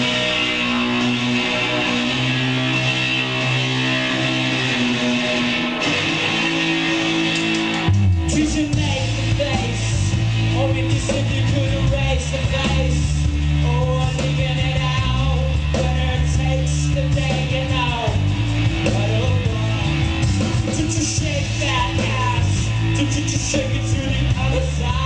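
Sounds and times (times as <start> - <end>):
bass line: 0.0 - 25.0
drums: 0.0 - 25.0
electric guitar chords: 0.0 - 25.0.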